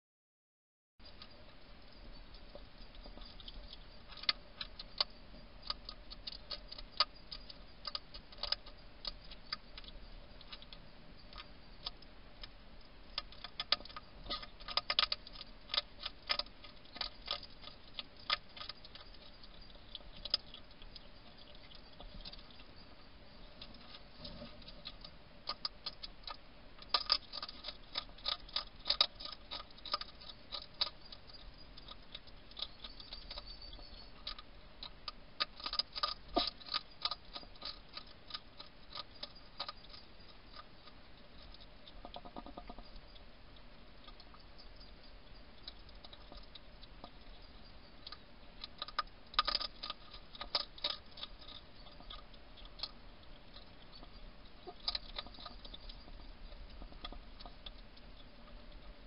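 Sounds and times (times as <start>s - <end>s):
faint steady hiss: 1.0s - 59.0s
hedgehog crunching dry food: 2.3s - 59.0s.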